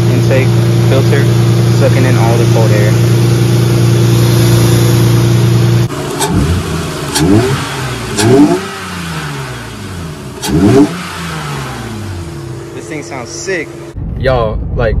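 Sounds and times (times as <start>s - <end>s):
engine intake sucking air: 0.0s - 13.8s
engine revving: 0.0s - 14.0s.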